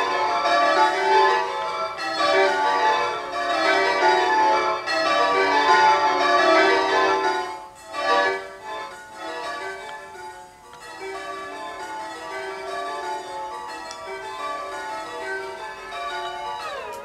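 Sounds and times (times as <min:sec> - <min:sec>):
bell-like tones ringing: 0:00.0 - 0:17.0.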